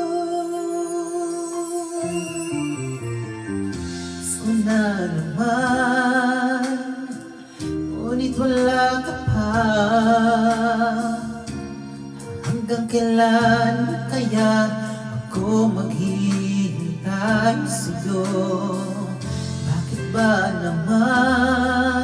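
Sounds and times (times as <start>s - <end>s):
man singing a slow ballad: 0.0s - 3.0s, 3.7s - 22.0s
backing music: 0.0s - 22.0s.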